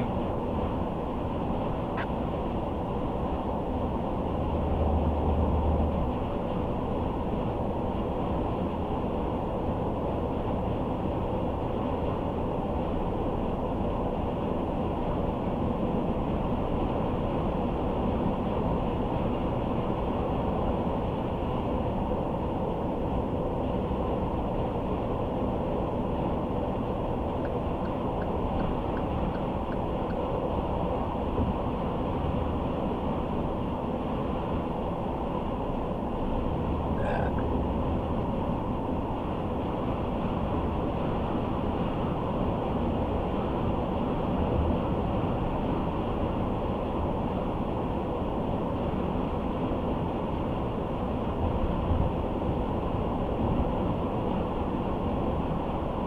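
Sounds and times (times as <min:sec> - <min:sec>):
car road and tyre noise: 0:00.0 - 0:56.0.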